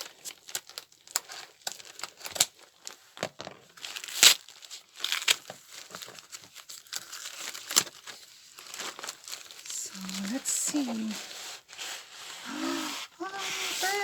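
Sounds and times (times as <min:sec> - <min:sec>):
package wrapping crinkling: 0:00.0 - 0:03.0, 0:03.6 - 0:11.9.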